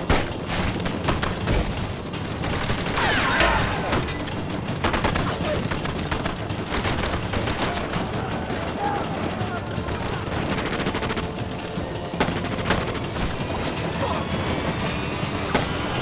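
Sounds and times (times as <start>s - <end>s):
rapid overlapping gunshots: 0.0s - 16.0s
submachine gun firing in bursts: 0.0s - 16.0s.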